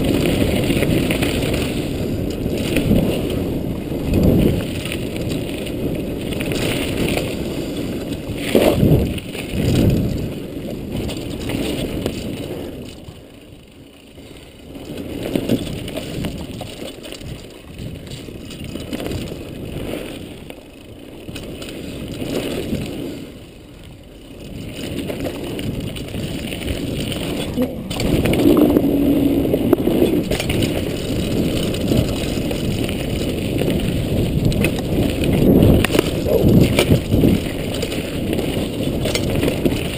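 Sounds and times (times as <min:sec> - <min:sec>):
wind buffeting microphone: 0:00.0 - 0:20.5, 0:21.2 - 0:39.9
bike knocking and rattling: 0:00.0 - 0:39.9
bike tyres rumbling over dirt: 0:00.0 - 0:39.9.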